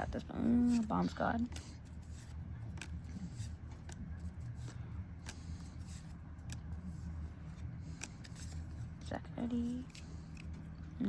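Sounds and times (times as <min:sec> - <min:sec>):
steady low hum: 0:00.0 - 0:11.0
cards being flipped: 0:00.4 - 0:10.8.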